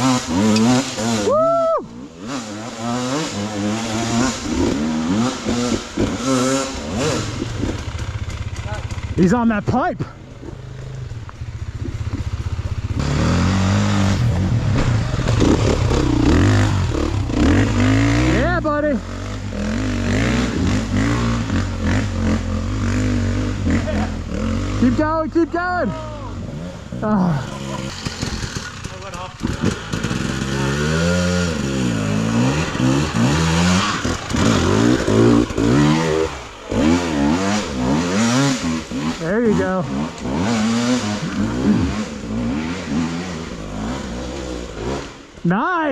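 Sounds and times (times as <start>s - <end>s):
dirt bike engine revving: 0.0s - 45.5s.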